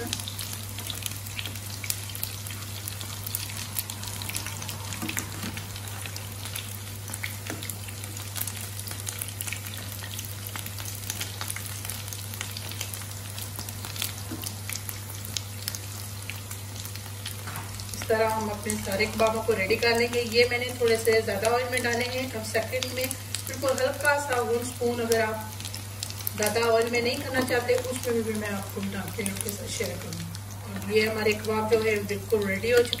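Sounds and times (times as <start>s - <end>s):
patties sizzling in oil: 0.0s - 33.0s.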